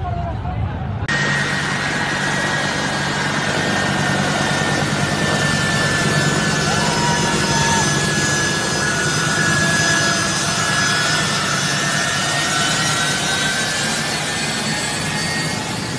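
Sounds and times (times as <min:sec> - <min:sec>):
turbofan engines roaring with whine: 0:00.0 - 0:15.9.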